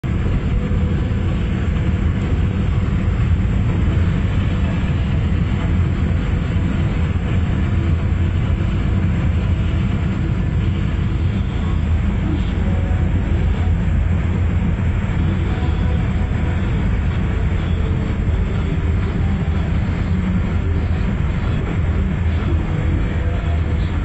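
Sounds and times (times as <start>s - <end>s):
car driving on wet road: 0.1s - 24.0s.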